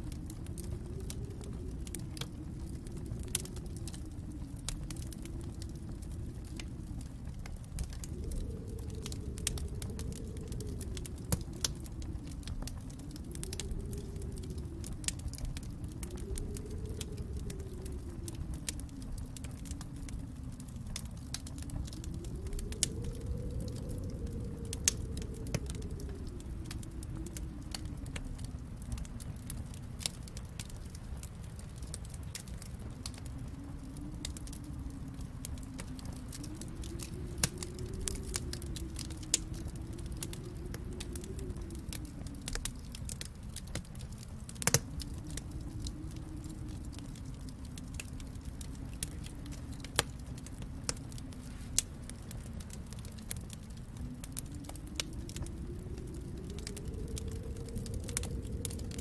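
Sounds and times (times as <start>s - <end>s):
low howling tone: 0.0s - 59.0s
low rumble: 0.0s - 59.0s
wood fire crackling and popping: 0.0s - 59.0s.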